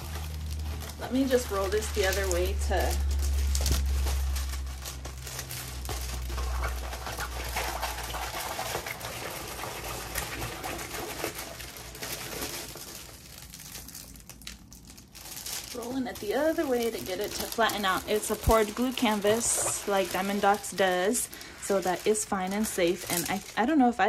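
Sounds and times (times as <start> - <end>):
low handling rumble: 0.0 - 10.2, 11.6 - 24.0
canvas and plastic film rustling: 0.0 - 24.0.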